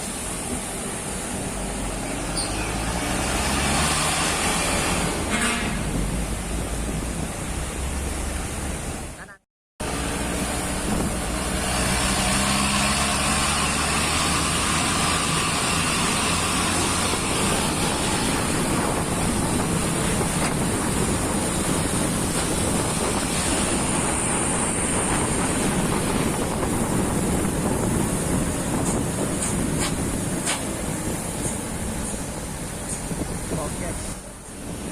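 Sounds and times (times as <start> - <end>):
tyre noise on wet road: 0.0 - 9.2, 9.8 - 34.9
truck engine hum: 0.0 - 34.9.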